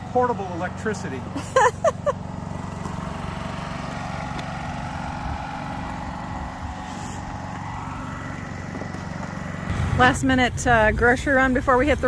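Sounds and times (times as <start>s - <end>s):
portable generator engine running: 0.0s - 12.0s.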